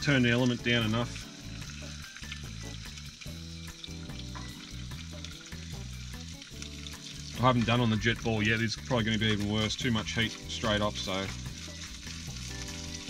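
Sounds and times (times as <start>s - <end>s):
bacon sizzling in a frying pan: 0.0s - 13.0s.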